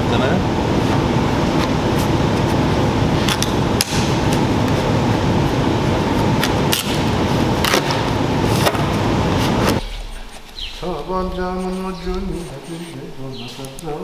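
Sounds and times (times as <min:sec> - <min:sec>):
loud steady noise: 0:00.0 - 0:14.0.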